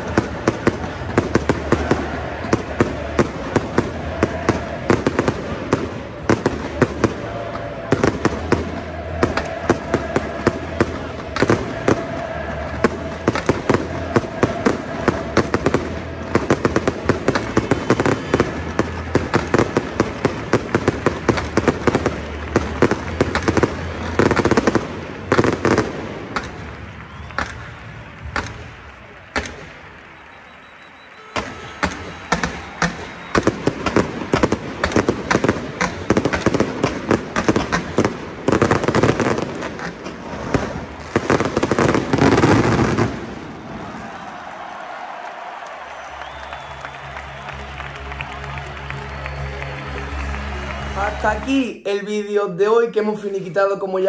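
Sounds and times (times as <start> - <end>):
crackling firework stars: 0.0 - 51.0
fireworks cracks and bangs: 0.0 - 51.4.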